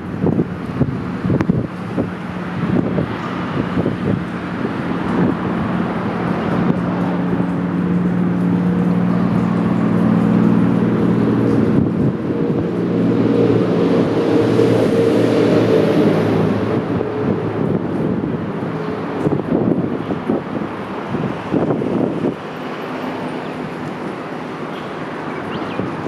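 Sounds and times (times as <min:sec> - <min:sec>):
river flowing: 0:00.0 - 0:26.0
steady low drone: 0:00.0 - 0:26.0.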